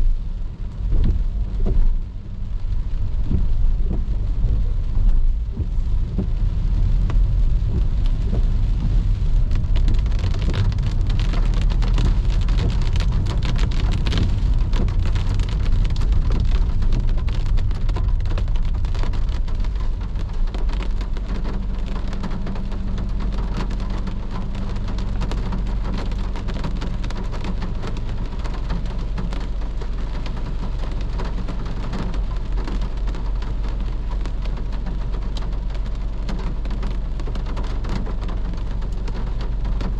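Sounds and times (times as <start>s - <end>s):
heavy rain on car: 0.0s - 39.9s
road and engine rumble: 0.0s - 39.9s.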